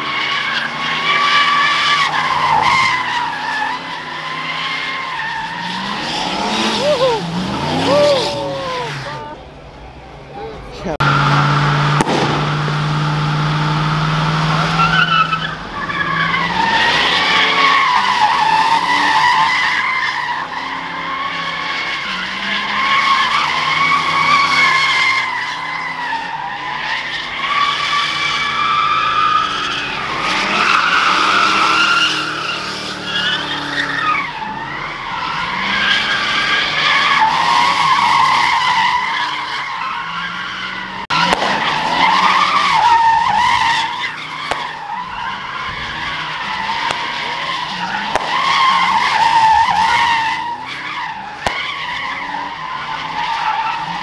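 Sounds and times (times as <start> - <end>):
car engine at high revs: 0.0 - 54.0
car tyres squealing: 0.0 - 54.0.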